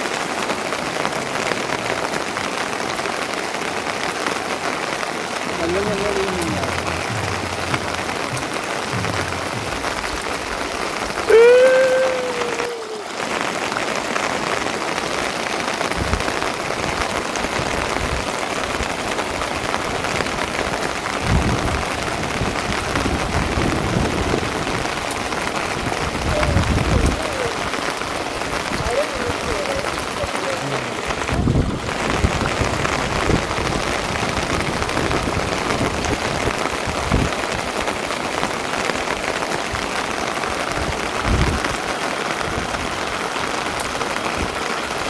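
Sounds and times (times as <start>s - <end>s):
steady rain: 0.0s - 45.0s.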